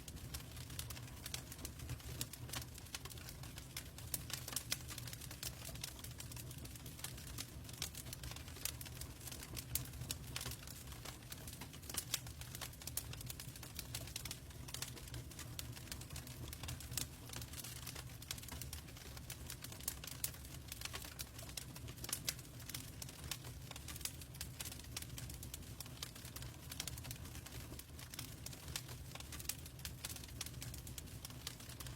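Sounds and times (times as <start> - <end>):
fire crackling and popping: 0.0 - 31.9.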